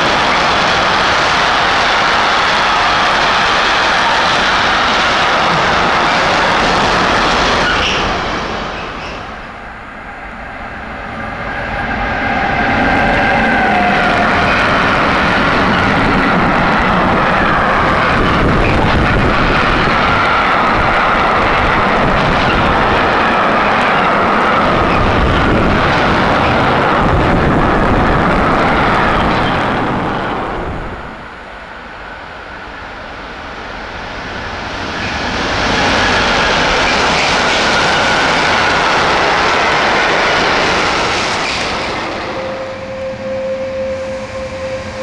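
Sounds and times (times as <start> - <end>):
freight train wheels rumbling: 0.0 - 45.0.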